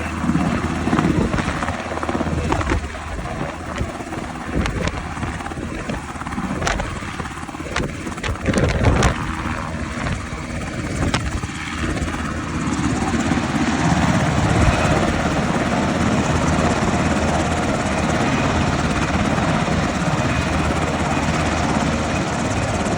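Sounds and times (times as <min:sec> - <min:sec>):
helicopter rotor and engine: 0:00.0 - 0:22.9.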